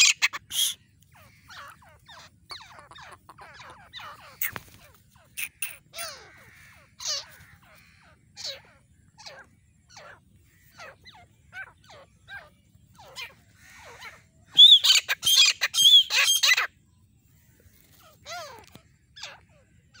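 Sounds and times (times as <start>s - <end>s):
francolin calling: 0.0s - 20.0s.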